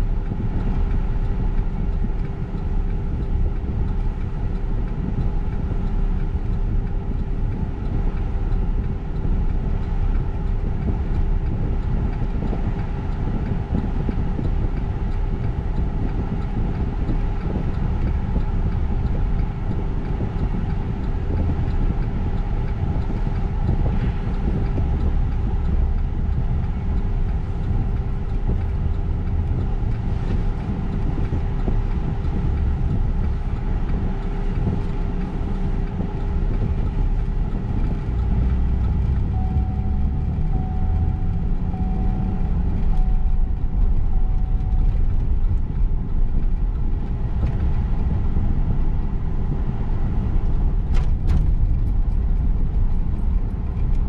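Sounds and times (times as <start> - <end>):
freight train rumbling: 0.0 - 54.0
thin steady hum: 0.0 - 54.0.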